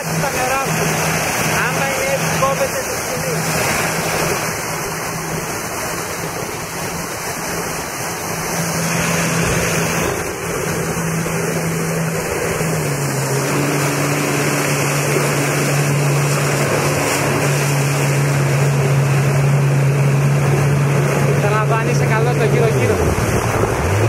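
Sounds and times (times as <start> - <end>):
jet ski engine running: 0.0 - 24.0
water rushing and splashing: 0.0 - 24.0.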